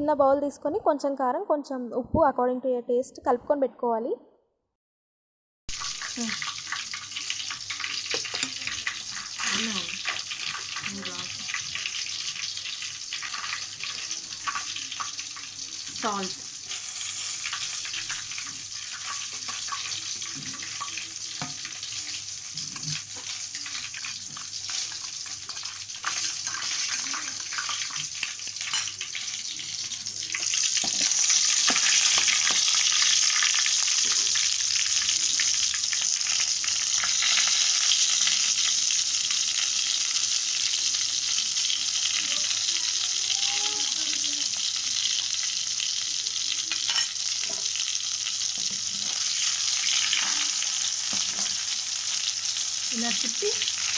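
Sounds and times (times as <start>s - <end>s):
chicken frying in hot oil: 5.7s - 53.9s.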